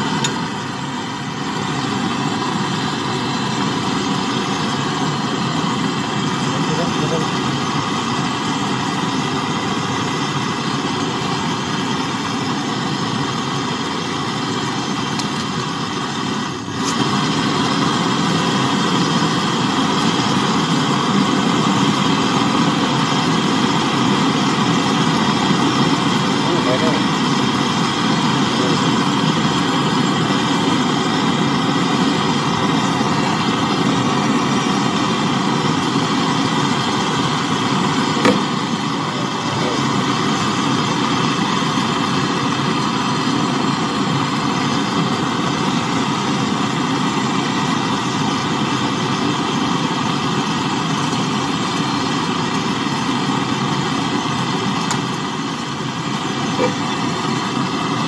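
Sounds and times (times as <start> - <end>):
torch flame hissing: 0.0 - 58.0.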